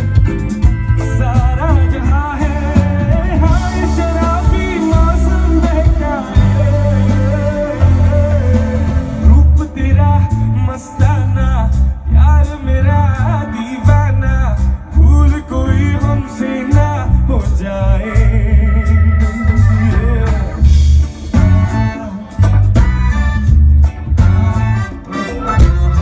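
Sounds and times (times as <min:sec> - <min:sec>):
live pop-rock band: 0:00.0 - 0:26.0
man singing: 0:00.9 - 0:23.0.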